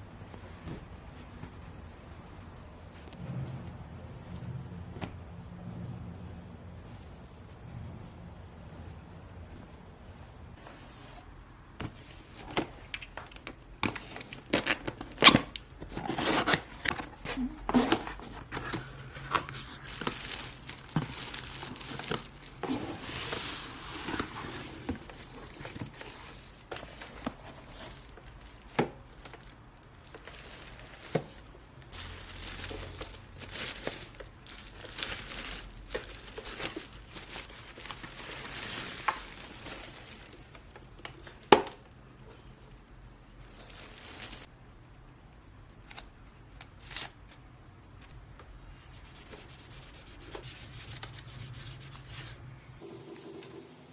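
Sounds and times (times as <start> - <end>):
crinkling and rustling handling: 0.0 - 44.6.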